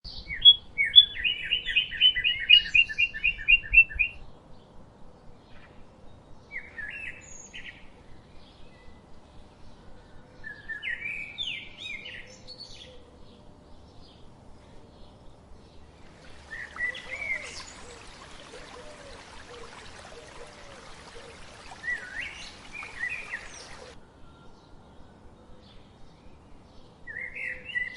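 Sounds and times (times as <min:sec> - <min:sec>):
birds singing: 0:00.1 - 0:27.9.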